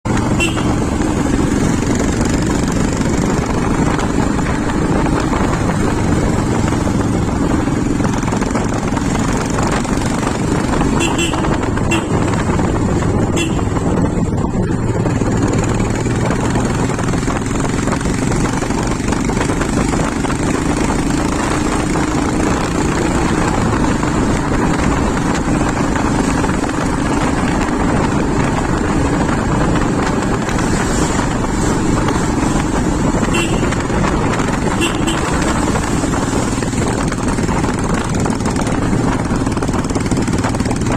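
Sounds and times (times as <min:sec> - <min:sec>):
motorcycle engine and road noise: 0:00.0 - 0:40.9.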